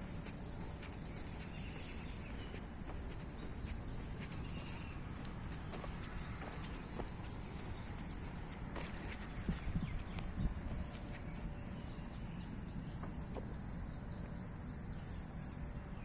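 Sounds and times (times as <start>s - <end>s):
low outdoor rumble: 0.0s - 15.9s
birds chirping: 0.0s - 16.0s.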